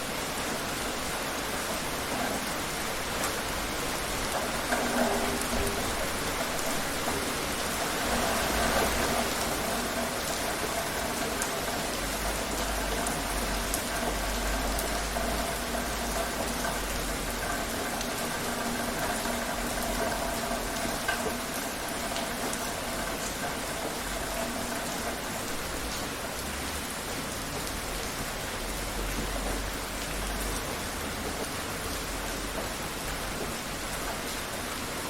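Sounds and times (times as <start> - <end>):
rain falling steadily: 0.0 - 35.0.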